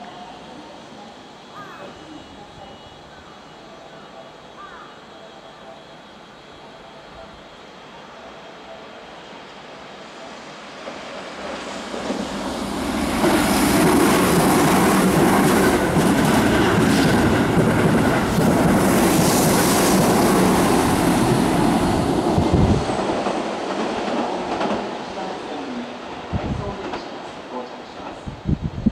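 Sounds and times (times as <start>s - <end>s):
train passing at speed: 0.0s - 28.9s.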